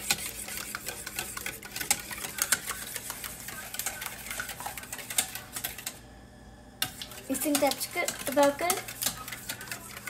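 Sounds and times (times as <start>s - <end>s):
whisk beating in a metal bowl: 0.0s - 6.0s, 6.8s - 10.0s.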